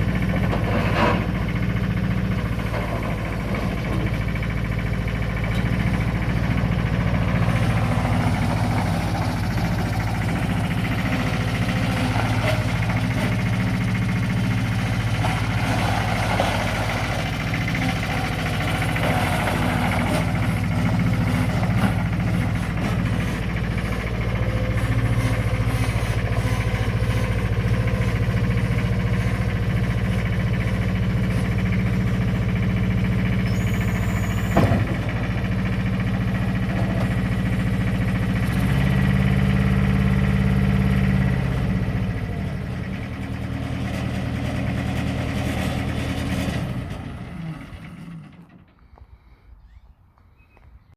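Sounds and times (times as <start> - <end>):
skid steer engine running: 0.0 - 50.7.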